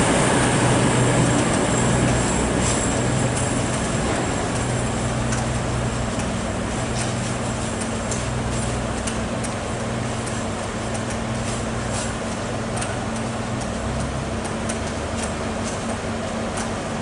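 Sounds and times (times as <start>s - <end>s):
diesel train engine droning: 0.0s - 17.0s
wheels clicking on track: 0.0s - 17.0s.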